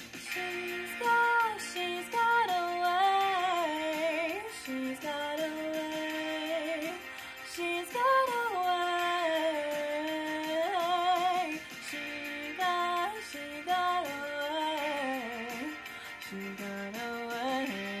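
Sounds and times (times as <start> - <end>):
woman singing pop song: 0.0 - 18.0.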